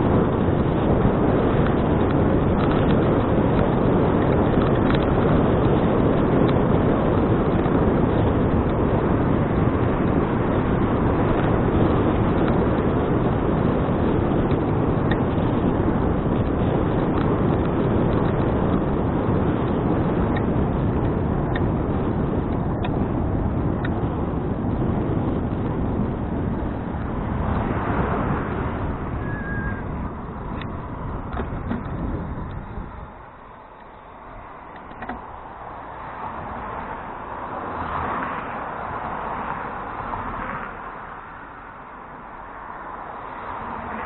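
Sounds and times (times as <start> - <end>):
road and tyre noise: 0.0 - 44.0
wind buffeting microphone: 0.0 - 44.0.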